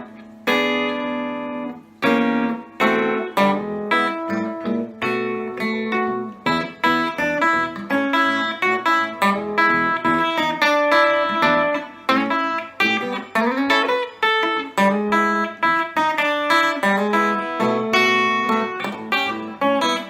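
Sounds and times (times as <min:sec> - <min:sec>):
electric guitar picking notes: 0:00.0 - 0:20.0.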